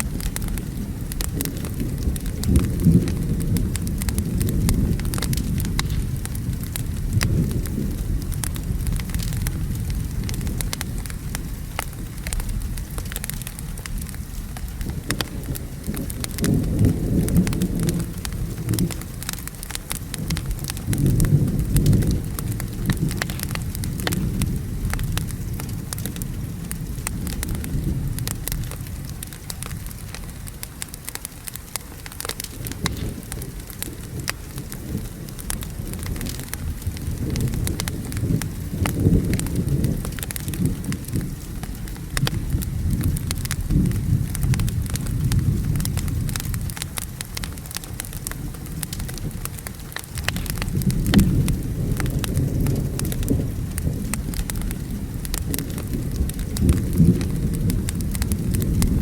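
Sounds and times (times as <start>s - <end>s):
rolling thunder: 0.0s - 30.4s, 32.1s - 59.0s
steady rain: 0.0s - 59.0s
wood fire crackling: 0.0s - 59.0s.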